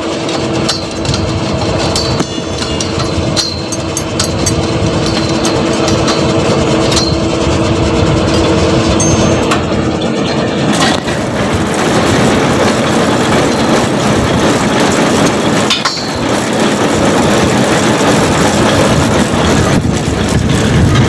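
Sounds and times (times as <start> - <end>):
drilling rig mechanical din: 0.0 - 21.0.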